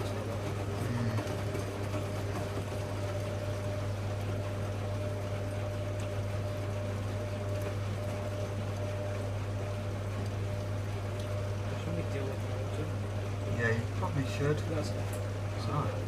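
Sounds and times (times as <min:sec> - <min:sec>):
washing machine running: 0:00.0 - 0:16.0
water washing: 0:00.0 - 0:16.0.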